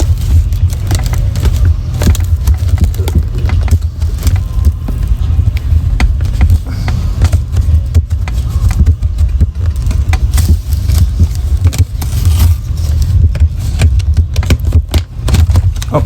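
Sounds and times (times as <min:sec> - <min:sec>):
cardboard and plastic packaging crinkling: 0:00.0 - 0:16.0.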